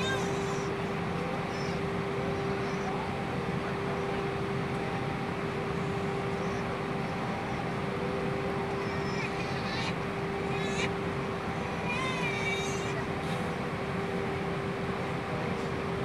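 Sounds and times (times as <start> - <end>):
aircraft engine and airflow noise: 0.0 - 16.0
constant hum tone: 0.0 - 16.0.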